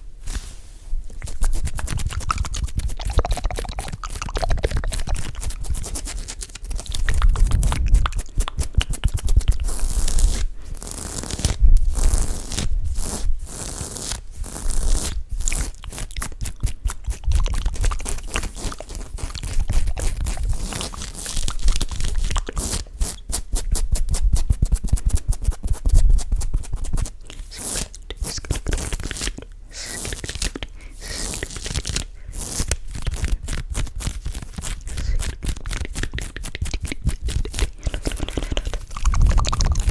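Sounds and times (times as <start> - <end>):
hands rubbing against microphone: 0.2 - 39.9.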